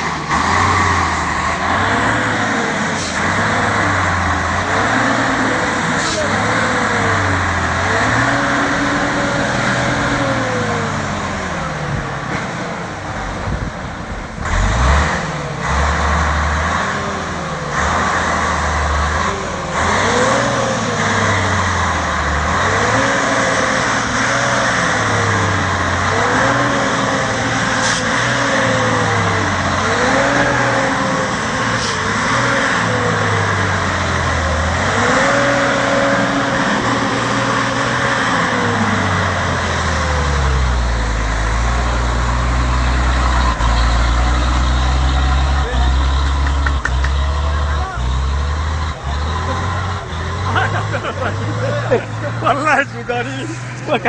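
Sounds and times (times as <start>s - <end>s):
truck diesel engine revving: 0.0s - 54.0s.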